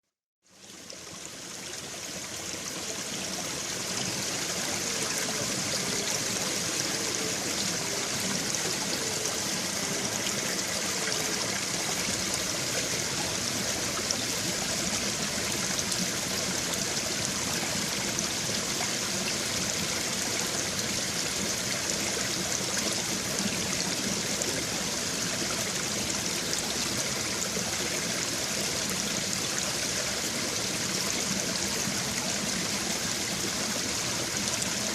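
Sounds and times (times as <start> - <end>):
babbling brook: 0.4 - 34.9.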